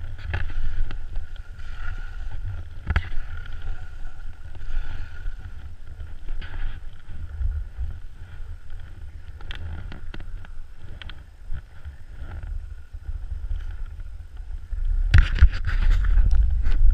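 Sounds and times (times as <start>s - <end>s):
skis scraping over snow: 0.0s - 16.9s
wind rumbling on microphone: 0.0s - 16.9s.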